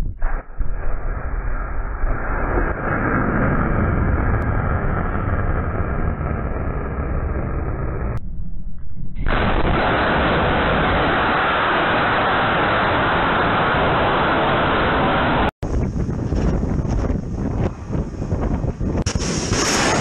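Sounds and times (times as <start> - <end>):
missile booster rumbling rush: 0.0 - 20.0.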